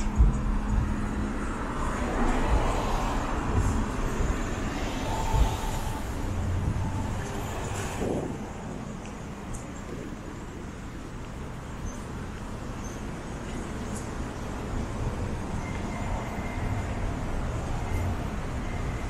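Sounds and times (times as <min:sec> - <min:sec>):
cars passing on street: 0:00.0 - 0:19.0.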